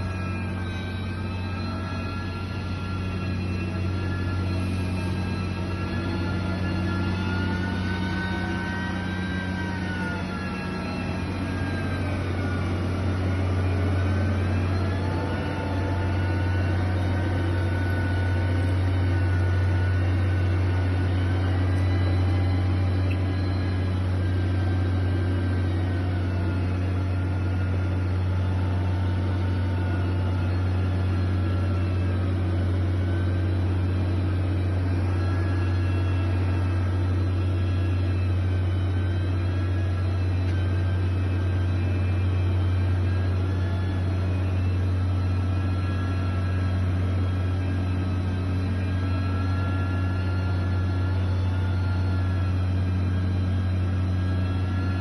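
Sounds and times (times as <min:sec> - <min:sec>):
heavy diesel engine hum: 0:00.0 - 0:55.0
wavering whine: 0:00.0 - 0:55.0.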